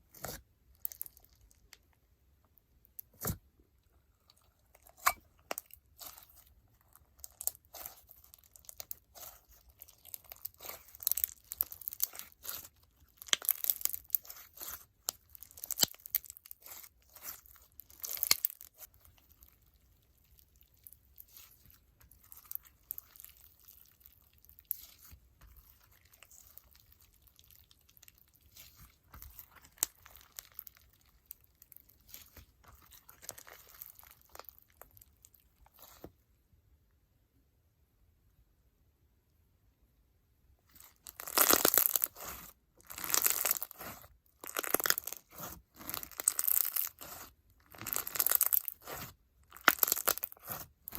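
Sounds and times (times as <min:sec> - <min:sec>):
crunchy slime crackling and popping: 0:00.0 - 0:02.0, 0:04.2 - 0:36.0, 0:40.7 - 0:50.9.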